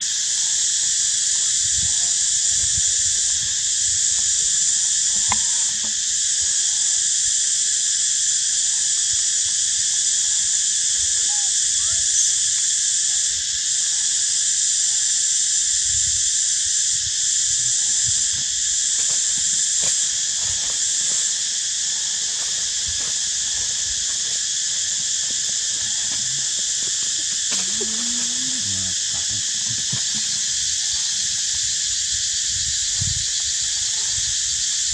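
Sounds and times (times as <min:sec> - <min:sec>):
insect chorus buzzing: 0:00.0 - 0:34.9.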